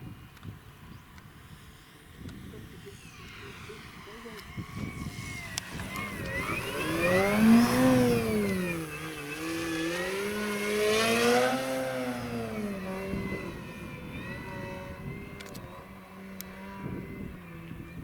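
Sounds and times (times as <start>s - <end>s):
model airplane motor whining: 0.0s - 18.0s.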